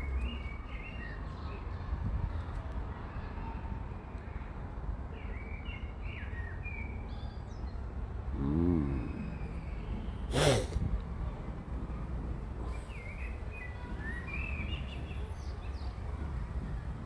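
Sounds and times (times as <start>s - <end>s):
faint birdsong: 0.0s - 10.4s, 11.2s - 17.0s.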